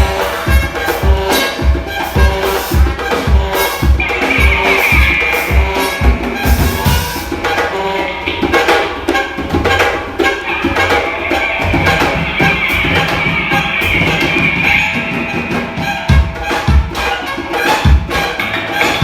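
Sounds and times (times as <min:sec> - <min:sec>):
high held tone: 0:00.0 - 0:09.4, 0:10.0 - 0:19.0
samba percussion ensemble: 0:00.0 - 0:19.0.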